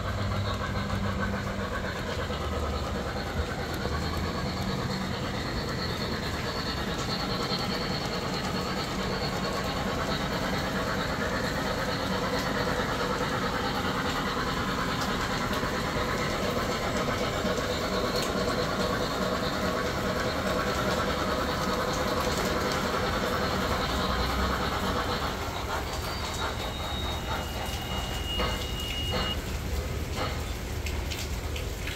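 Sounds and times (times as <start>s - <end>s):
model train running on track: 0.0s - 31.9s.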